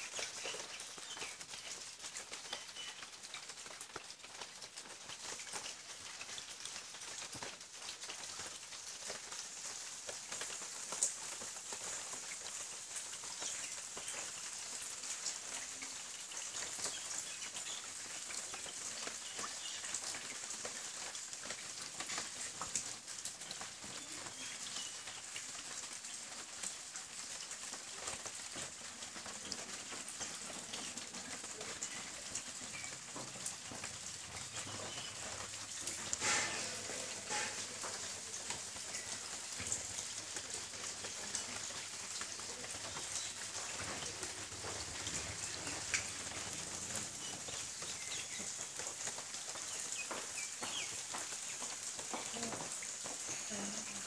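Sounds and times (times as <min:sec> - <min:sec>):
rain falling on pond water: 0:00.0 - 0:54.0.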